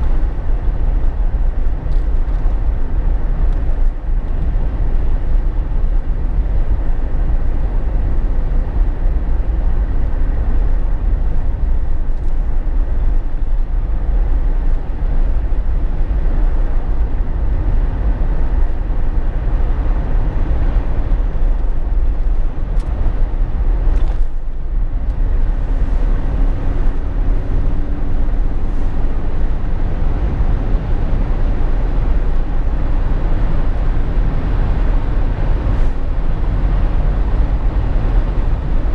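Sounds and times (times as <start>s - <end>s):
road and wind noise in car cabin: 0.0s - 38.9s.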